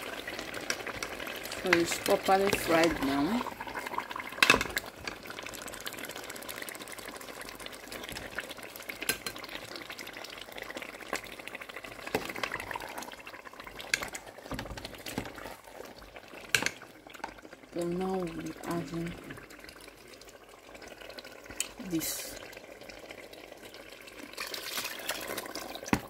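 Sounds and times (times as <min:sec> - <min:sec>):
stew sizzling in oil: 0:00.0 - 0:26.0.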